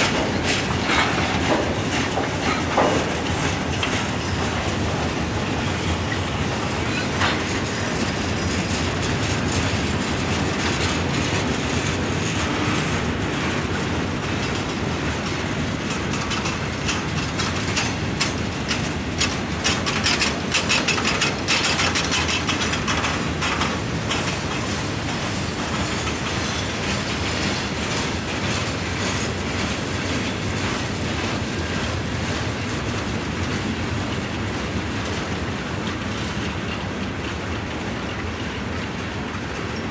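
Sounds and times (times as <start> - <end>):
railroad cars rumbling past: 0.0 - 39.9
wheels clicking over rail joints: 0.0 - 39.9.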